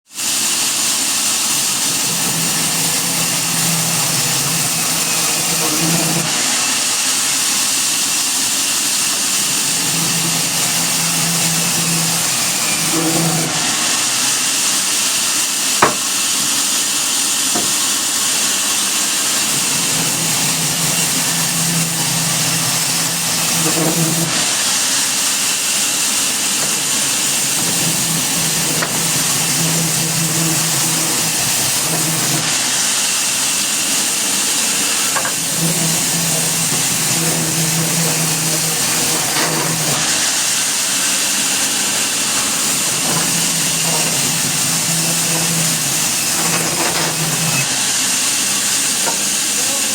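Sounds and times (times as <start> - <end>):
sawmill machinery humming: 0.1 - 49.9.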